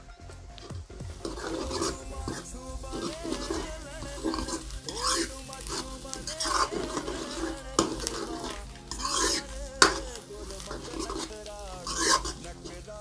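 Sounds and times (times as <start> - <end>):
ladle scraping metal pan: 0.6 - 13.0.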